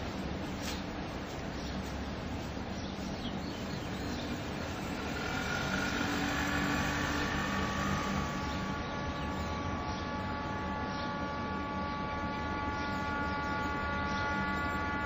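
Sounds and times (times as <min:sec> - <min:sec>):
engine rumble: 0:00.0 - 0:15.0
high whine: 0:00.0 - 0:15.0.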